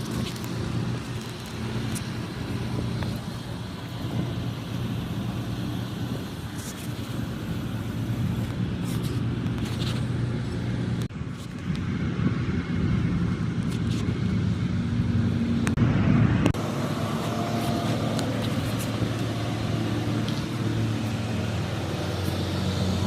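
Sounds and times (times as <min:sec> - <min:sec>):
large diesel engine running: 0:00.0 - 0:23.0.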